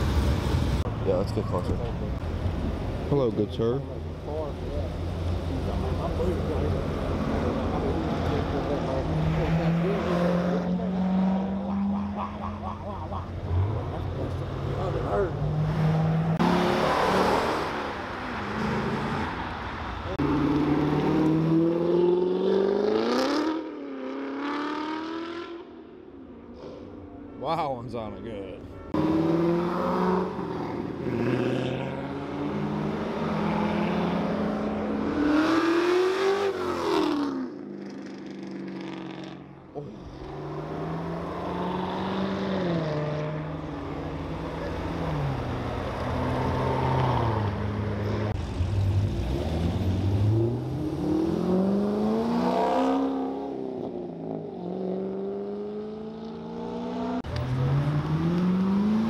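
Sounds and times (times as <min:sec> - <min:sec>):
car engines revving: 0:00.0 - 0:25.9, 0:28.9 - 0:59.0.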